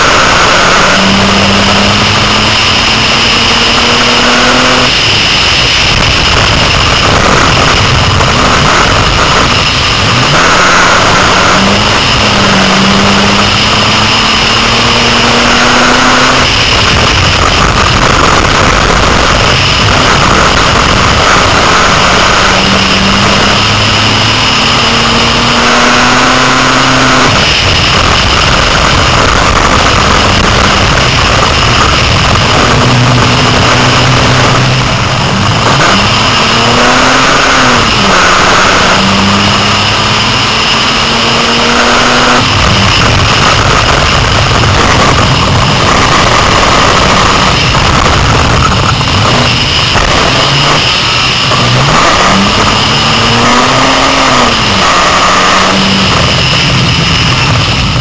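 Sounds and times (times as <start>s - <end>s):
loud rush of noise: 0.0s - 58.0s
race car engine running hard: 0.0s - 58.0s.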